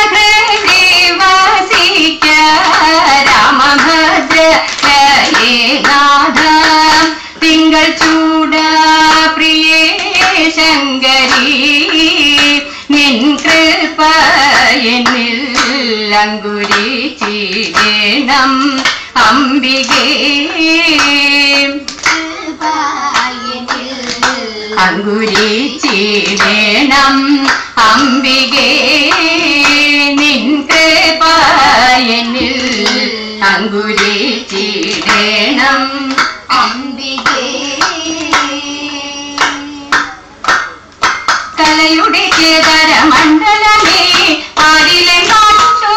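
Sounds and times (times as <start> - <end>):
women singing: 0.0 - 40.6, 41.5 - 45.9
hands clapping in rhythm: 0.0 - 45.9.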